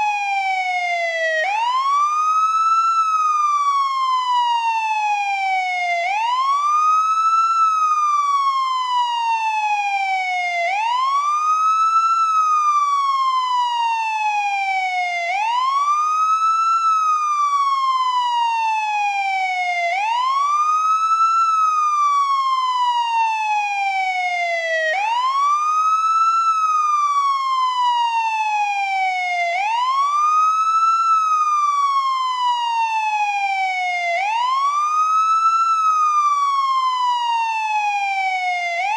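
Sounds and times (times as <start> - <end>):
police car siren wailing: 0.0 - 38.9.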